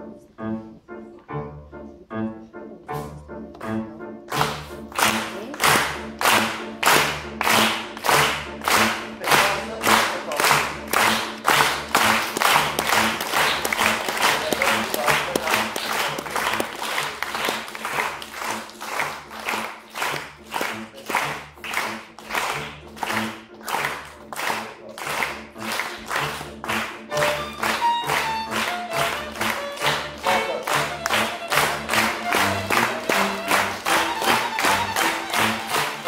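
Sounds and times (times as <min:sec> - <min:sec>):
music: 0:00.0 - 0:36.0
audience clapping along: 0:04.3 - 0:36.0.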